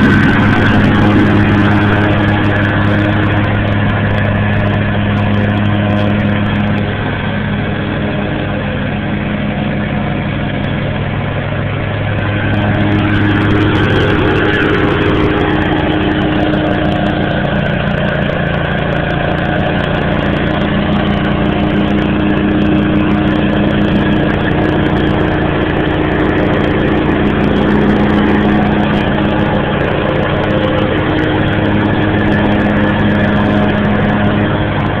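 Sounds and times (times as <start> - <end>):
lawn tractor engine running: 0.0 - 35.0.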